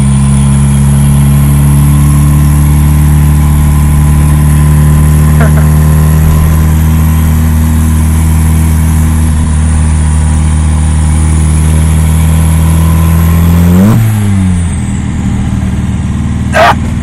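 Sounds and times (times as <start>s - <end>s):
car engine under load: 0.0s - 17.0s.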